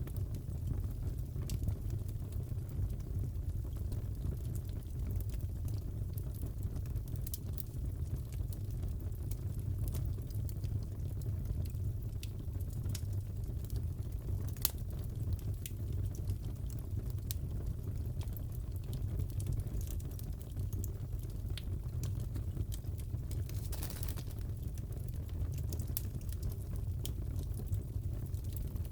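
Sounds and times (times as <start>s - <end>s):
fire popping and snapping: 0.0s - 28.9s
wood fire crackling: 0.0s - 28.9s.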